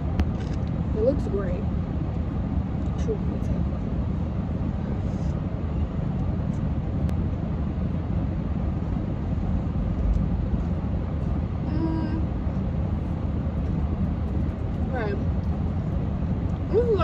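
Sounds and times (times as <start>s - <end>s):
car cabin engine rumble: 0.0s - 17.0s.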